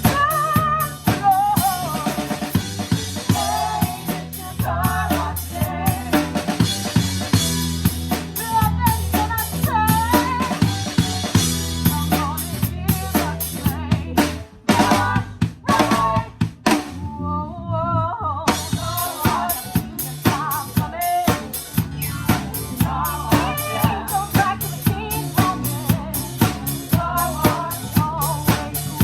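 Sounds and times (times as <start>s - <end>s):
drum kit rock beat: 0.0s - 17.0s, 18.5s - 29.0s.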